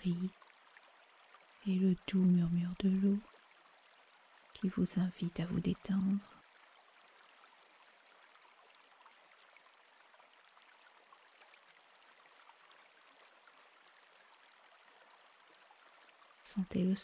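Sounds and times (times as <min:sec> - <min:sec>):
stream flowing: 0:00.0 - 0:17.0.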